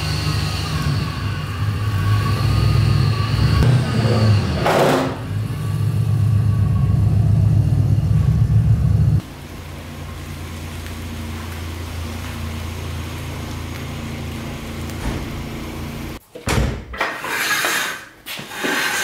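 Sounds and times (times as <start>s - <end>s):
car engine running: 0.0s - 16.2s.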